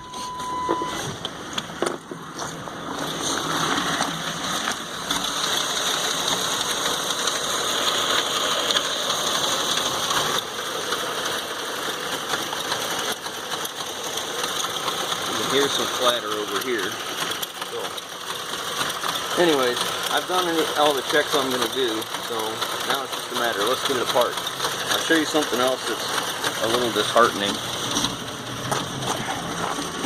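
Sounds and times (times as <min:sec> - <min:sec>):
engine idling rough with rattle: 0:00.0 - 0:30.0.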